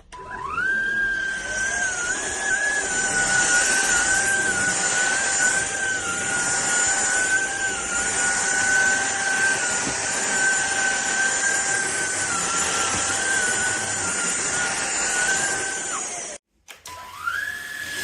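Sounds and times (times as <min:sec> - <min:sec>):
stick vacuum cleaner whining: 0:00.0 - 0:18.0.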